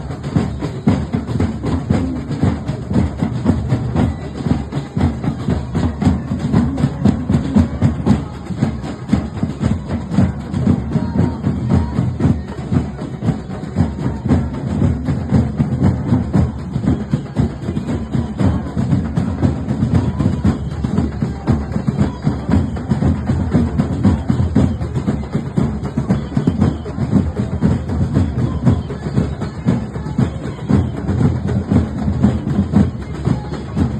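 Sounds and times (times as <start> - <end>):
drums beating fast: 0.0 - 33.9.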